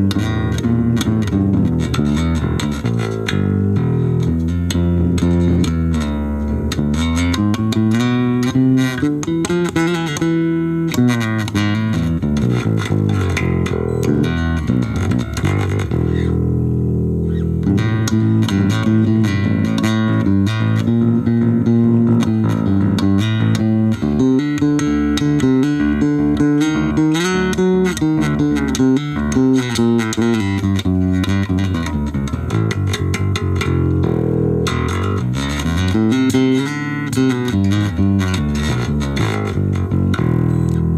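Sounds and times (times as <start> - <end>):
electric bass plucked notes: 0.0 - 40.9.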